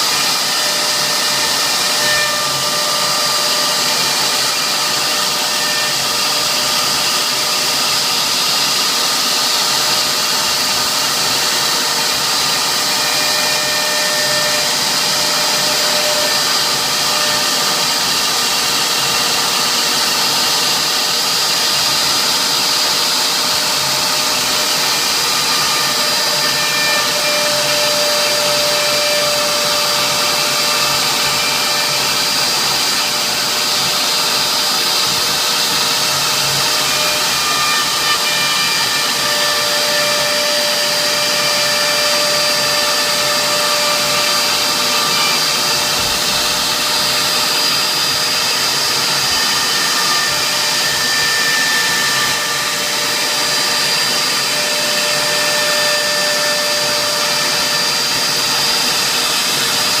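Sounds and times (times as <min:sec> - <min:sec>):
router spindle hiss and whine: 0:00.0 - 1:00.0.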